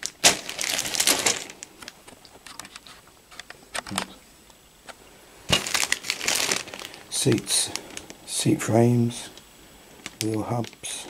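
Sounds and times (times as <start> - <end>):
plastic bags crinkling: 0.0 - 4.2, 5.5 - 9.4, 10.0 - 11.0.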